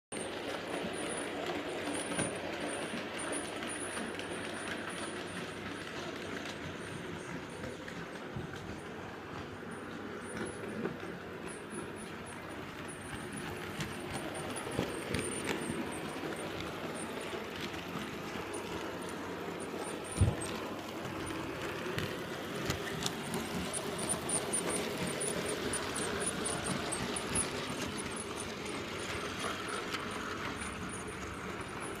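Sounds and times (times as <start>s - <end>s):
model train motor humming: 0.2s - 32.0s.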